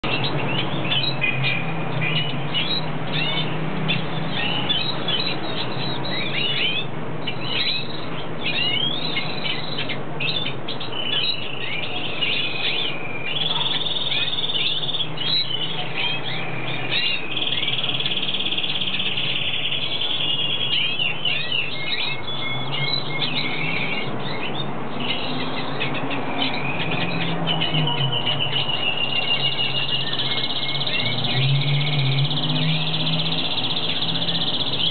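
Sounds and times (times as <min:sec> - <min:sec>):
bird twittering song: 0:00.0 - 0:34.9.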